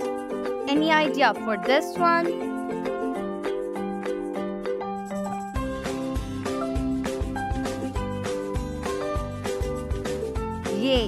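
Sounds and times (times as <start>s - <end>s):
upbeat music with bright melody: 0.0s - 11.0s.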